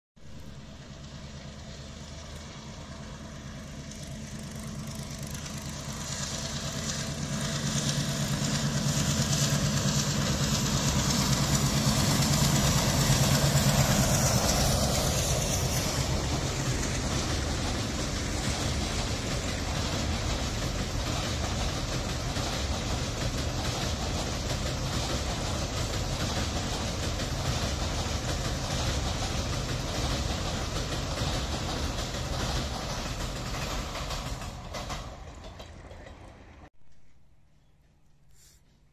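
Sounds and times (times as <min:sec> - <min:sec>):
diesel locomotive engine drone: 0:00.2 - 0:36.7
train coaches rumbling over bridge: 0:00.2 - 0:36.7.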